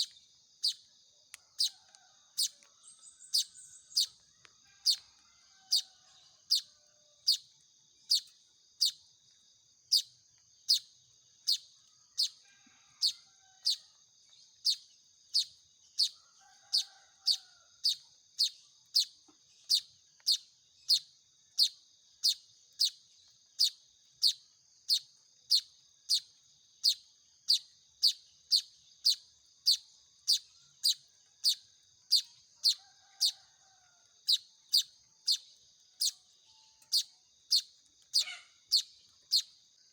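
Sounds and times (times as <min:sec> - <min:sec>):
bird chick chirping: 0:00.0 - 0:00.8, 0:01.4 - 0:07.5, 0:08.1 - 0:09.0, 0:09.9 - 0:23.0, 0:23.6 - 0:39.6.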